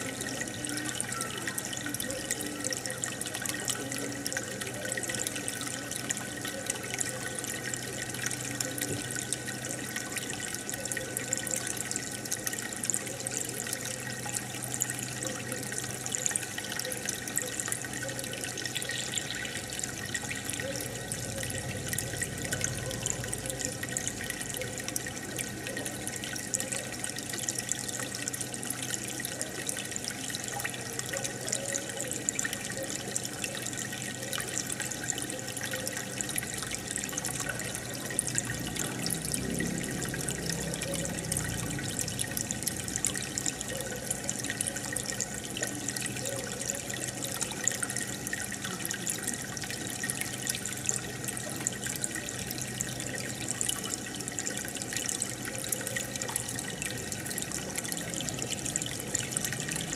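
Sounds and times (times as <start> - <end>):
aquarium water bubbling: 0.0 - 59.9.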